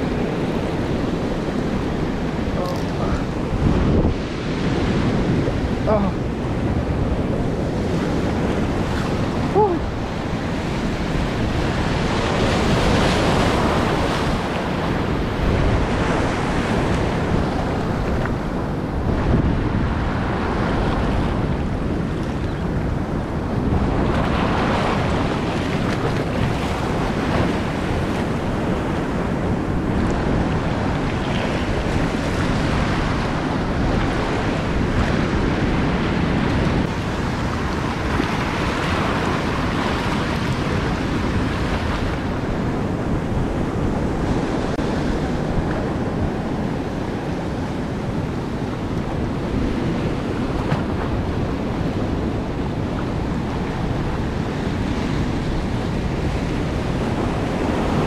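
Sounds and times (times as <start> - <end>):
surf breaking over rocks: 0.0 - 22.3, 23.5 - 58.0
wind buffeting microphone: 0.0 - 58.0.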